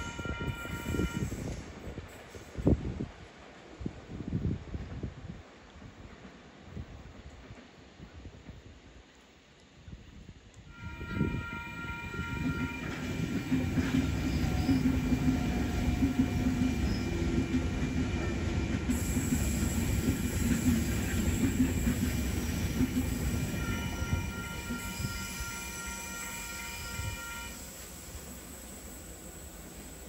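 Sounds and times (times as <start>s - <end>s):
train rumbling on rails: 0.0s - 9.1s, 9.8s - 30.0s.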